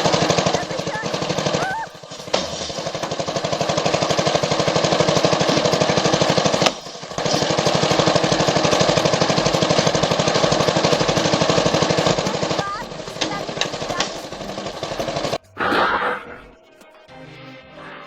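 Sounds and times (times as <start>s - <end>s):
small engine chugging: 0.0s - 16.3s.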